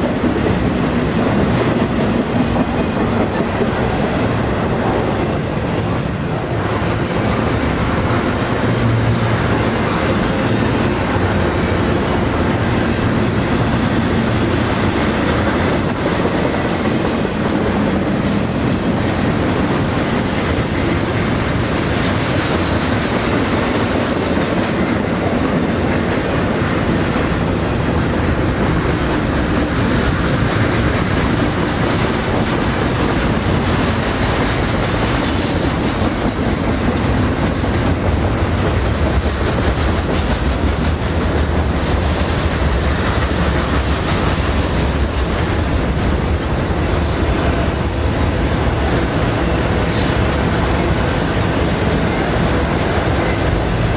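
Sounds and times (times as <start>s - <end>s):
freight train rolling past: 0.0s - 53.9s
wheels clacking over rail joints: 0.0s - 53.9s.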